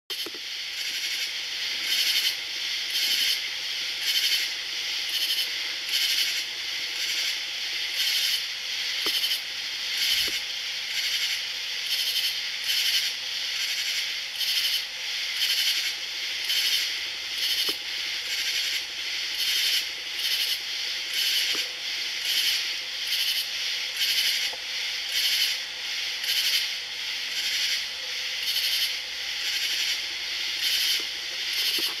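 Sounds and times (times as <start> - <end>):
insects singing: 0.1 - 32.0.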